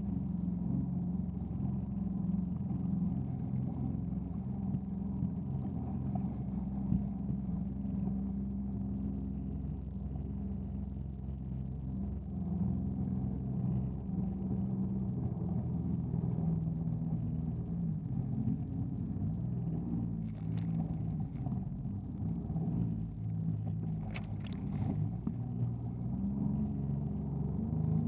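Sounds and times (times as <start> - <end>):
jet ski engine running: 0.0 - 28.0.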